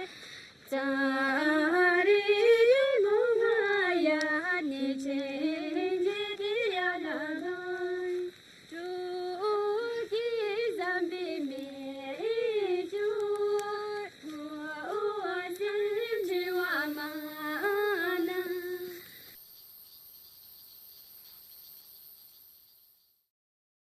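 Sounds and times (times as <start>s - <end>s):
woman singing unaccompanied: 0.0s - 19.2s.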